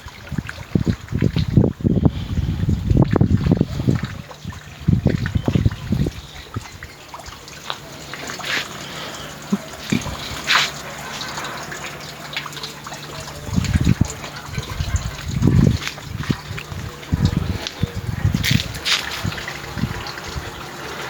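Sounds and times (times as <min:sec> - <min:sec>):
small splashes: 0:00.0 - 0:21.0
water trickling and dripping: 0:00.0 - 0:21.0
low rumbles: 0:00.3 - 0:20.8.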